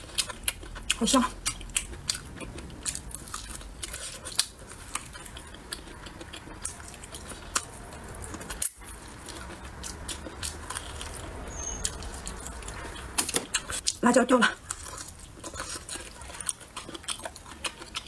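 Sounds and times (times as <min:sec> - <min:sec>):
person chewing meat: 0:00.0 - 0:14.0, 0:14.6 - 0:18.0.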